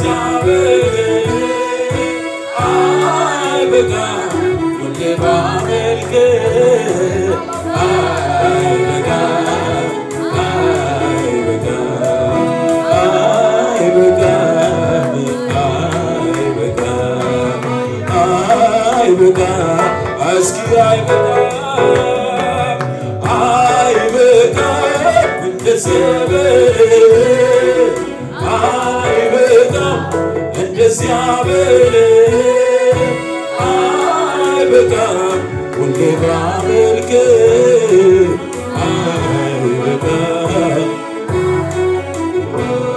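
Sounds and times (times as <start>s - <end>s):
man singing into microphone: 0.0s - 41.9s
instrumental accompaniment: 0.0s - 42.9s.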